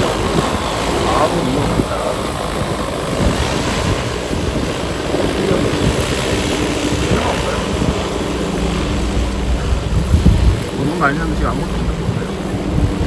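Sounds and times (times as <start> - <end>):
drone rotors humming: 0.0 - 13.0
wind buffeting microphone: 0.0 - 13.0.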